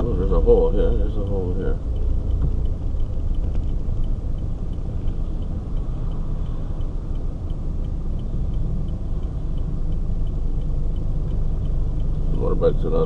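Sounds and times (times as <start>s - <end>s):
car engine and road rumble: 0.0s - 13.0s
faint regular ticking: 0.0s - 13.0s.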